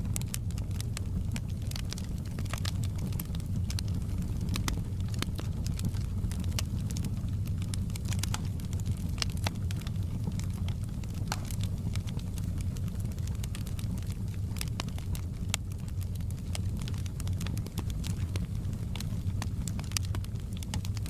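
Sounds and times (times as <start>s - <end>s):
fire pops and snaps: 0.0s - 21.0s
low fire rumble: 0.0s - 21.0s
wood fire crackling: 0.0s - 21.0s.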